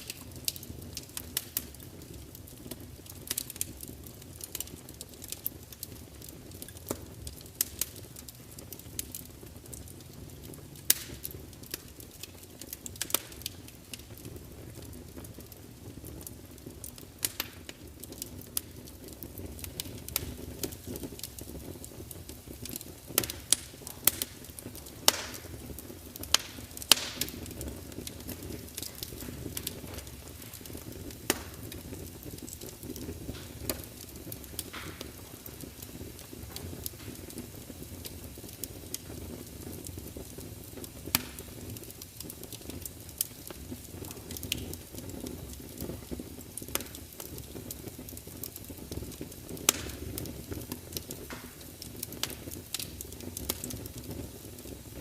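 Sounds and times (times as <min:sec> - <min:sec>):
log fire crackling and popping: 0:00.0 - 0:55.0
low rumble of flames: 0:00.0 - 0:55.0.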